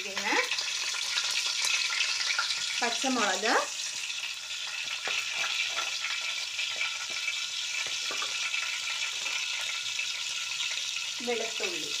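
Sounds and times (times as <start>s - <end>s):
chillies sizzling in oil: 0.0s - 12.0s.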